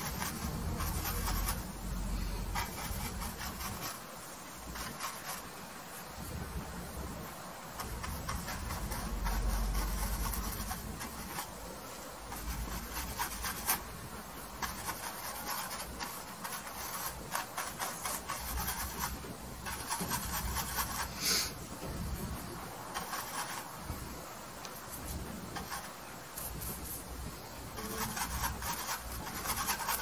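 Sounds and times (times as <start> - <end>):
paintbrush scratching on canvas: 0.0 - 30.0.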